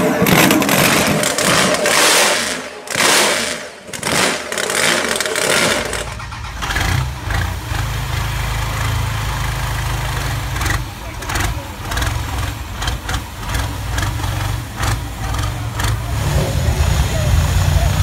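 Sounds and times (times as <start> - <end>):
diesel engine idling: 0.0 - 18.0
supercharged engine revving in blips: 0.0 - 18.0.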